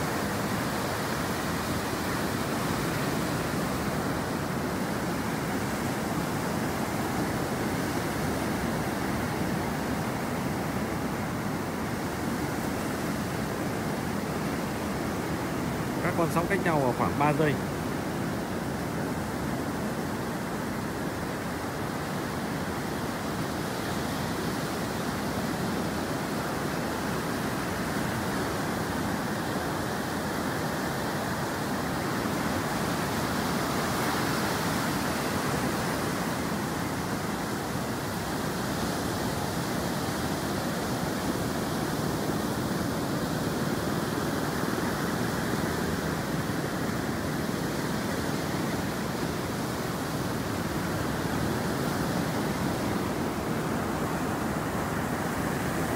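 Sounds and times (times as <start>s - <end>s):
waves breaking on beach: 0.0s - 55.9s.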